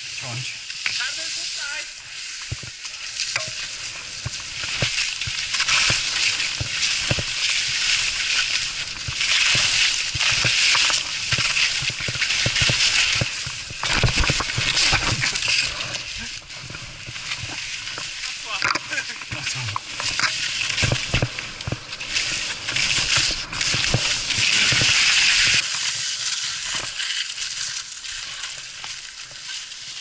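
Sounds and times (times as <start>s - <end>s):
skis scraping over snow: 0.2s - 30.0s.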